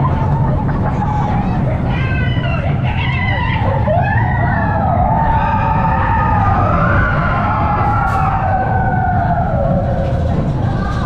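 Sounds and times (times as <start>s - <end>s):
roller coaster rumbling on track: 0.0s - 11.0s
riders screaming: 1.2s - 11.0s.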